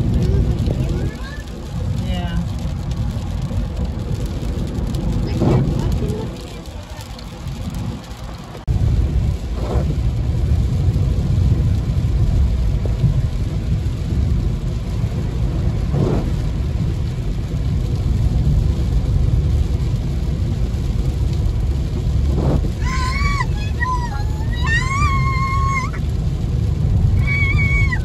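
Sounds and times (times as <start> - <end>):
rain on windshield: 0.0 - 28.0
road and tyre rumble: 0.0 - 28.0.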